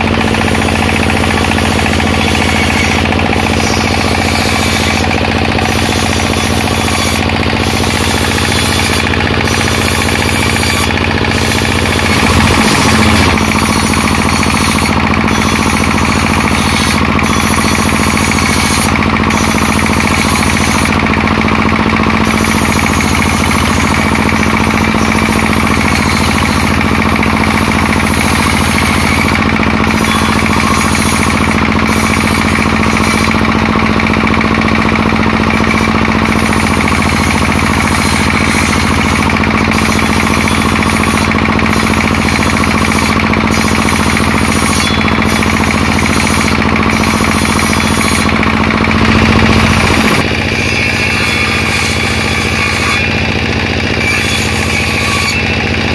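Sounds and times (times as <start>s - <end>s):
circular saw ripping wood: 0.0s - 55.9s.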